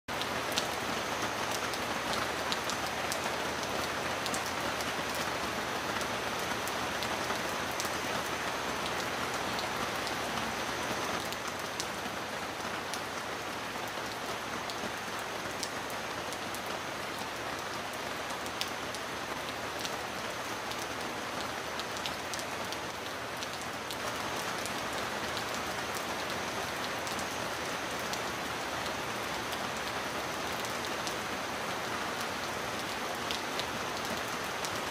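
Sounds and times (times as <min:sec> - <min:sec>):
heavy rain into puddles: 0:00.1 - 0:34.9.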